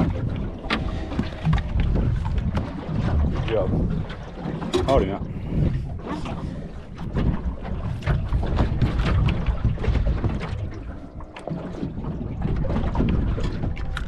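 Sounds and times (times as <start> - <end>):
water lapping against boat: 0.0 - 14.0
wind buffeting microphone: 0.0 - 14.0.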